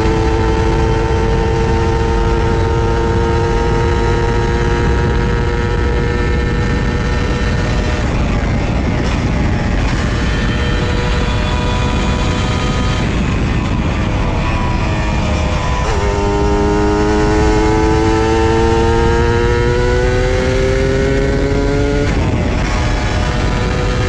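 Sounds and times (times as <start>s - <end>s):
two-stroke motorcycle engine running: 0.0s - 24.0s.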